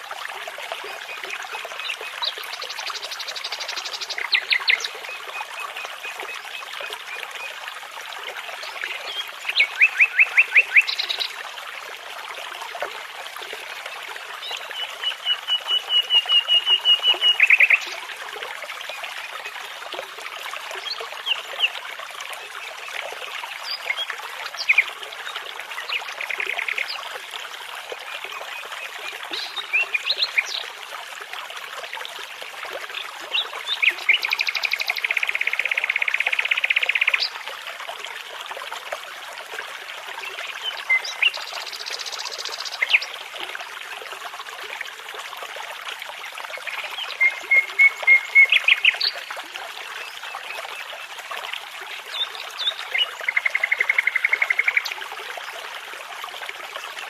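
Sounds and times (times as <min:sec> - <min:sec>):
babbling brook: 0:00.0 - 0:57.0.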